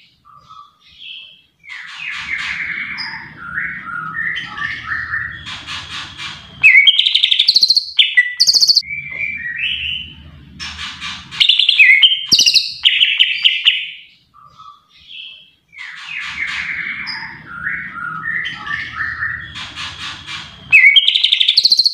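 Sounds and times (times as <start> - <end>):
bird singing chattering and whistling: 1.7 - 14.0, 15.8 - 21.9.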